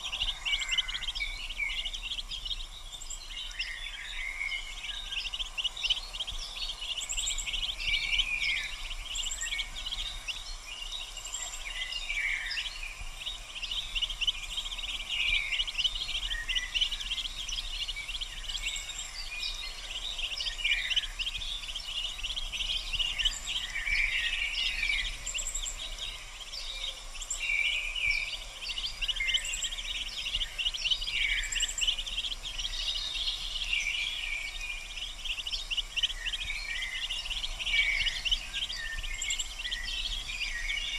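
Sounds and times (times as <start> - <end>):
ducklings peeping: 0.0 - 40.9.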